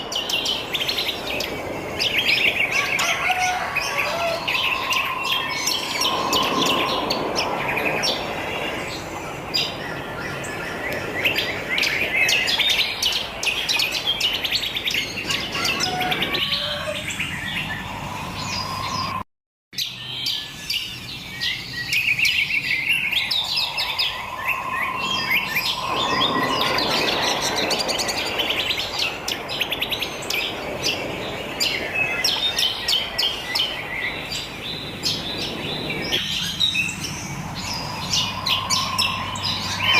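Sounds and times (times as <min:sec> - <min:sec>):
wild birds chirping and singing: 0:00.0 - 0:19.2, 0:19.8 - 0:39.9.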